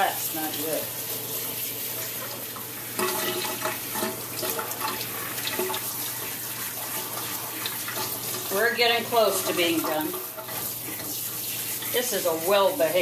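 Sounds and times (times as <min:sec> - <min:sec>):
tap water running into sink: 0:00.0 - 0:13.0
water splashing on puppy's coat: 0:00.0 - 0:13.0.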